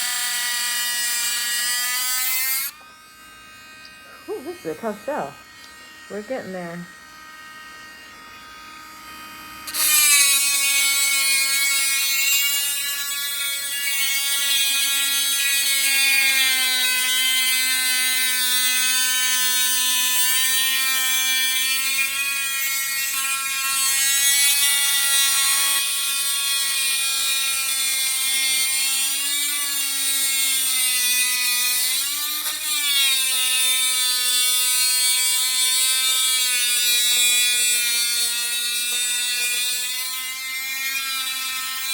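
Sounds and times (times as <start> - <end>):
rotary tool motor whine: 0.0 - 41.9.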